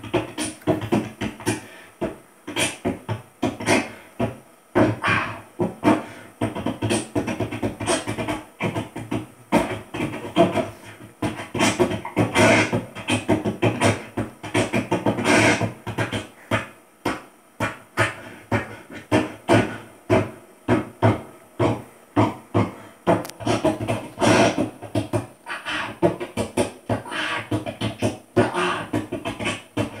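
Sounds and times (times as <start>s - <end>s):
beatboxing into a microphone: 0.0s - 30.0s.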